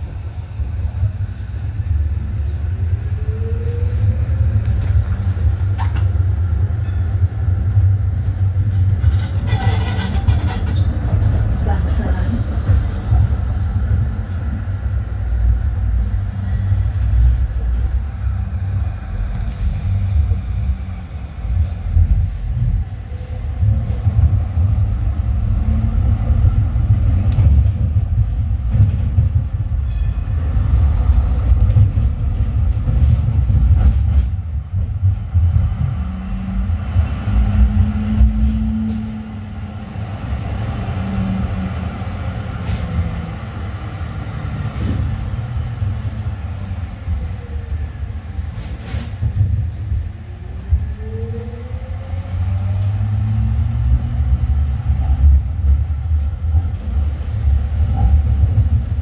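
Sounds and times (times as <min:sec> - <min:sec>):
tram rumbling: 0:00.0 - 0:59.0.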